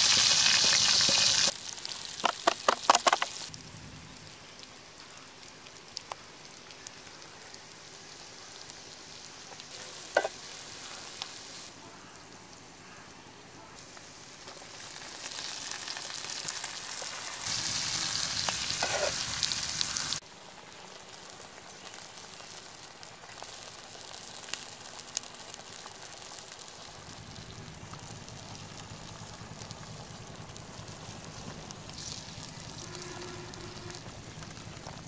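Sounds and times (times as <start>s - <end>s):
hot oil sizzling in a pan: 0.0s - 3.6s, 4.2s - 11.7s, 13.8s - 35.0s
curry simmering sizzle: 0.0s - 11.8s, 13.8s - 35.0s.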